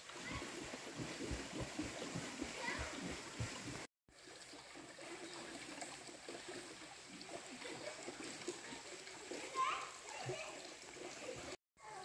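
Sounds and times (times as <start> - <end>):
stream trickling over stones: 0.0 - 12.0.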